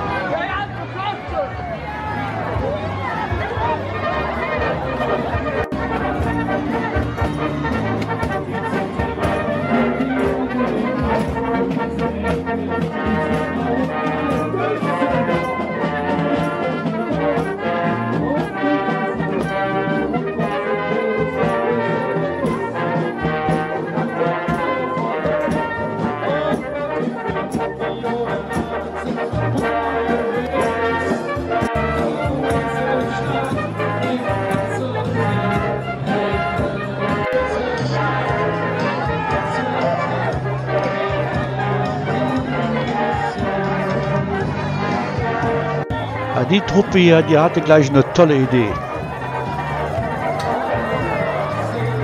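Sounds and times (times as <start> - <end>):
brass marching band: 0.0 - 52.0.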